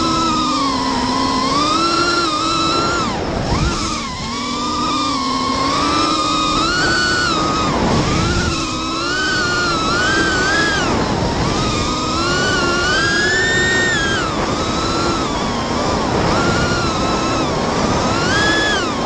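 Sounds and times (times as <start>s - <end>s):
quadcopter motors whining: 0.0s - 19.0s
rush of wind and prop noise: 0.0s - 19.0s.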